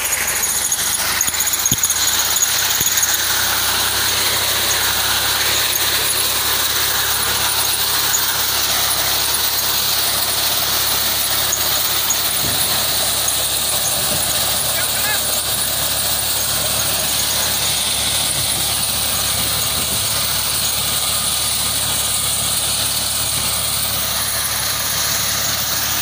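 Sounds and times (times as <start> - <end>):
reaper hissing and whining: 0.0 - 26.0
tractor engine running: 0.0 - 26.0.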